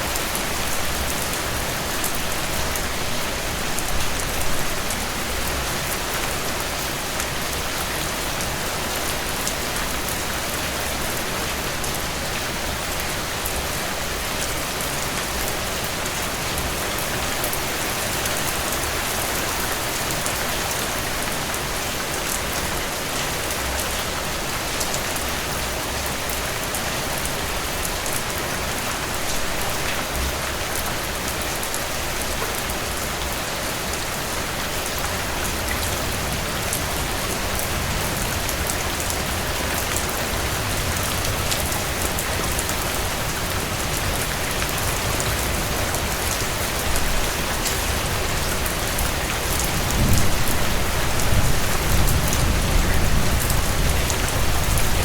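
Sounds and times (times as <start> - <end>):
heavy rain on roof: 0.0 - 55.0.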